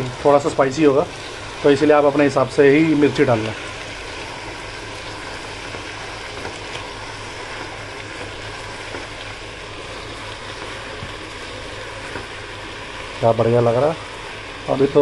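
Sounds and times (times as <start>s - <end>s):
chicken and onions sizzling in a pot: 0.0s - 15.0s.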